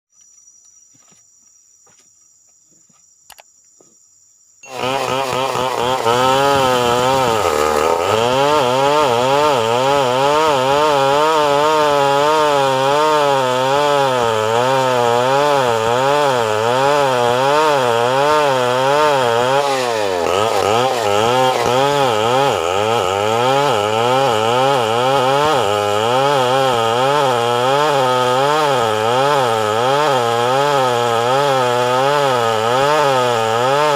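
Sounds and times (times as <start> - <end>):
chainsaw cutting wood: 4.6 - 33.9.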